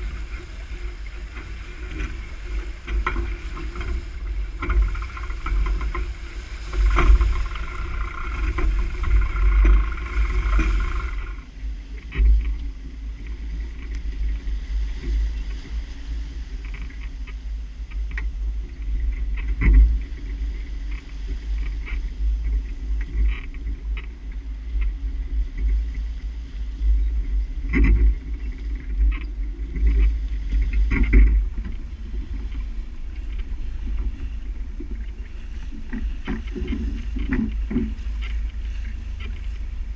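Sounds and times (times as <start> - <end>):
water slapping along hull: 0.0 - 39.9
wind buffeting microphone: 0.0 - 39.9.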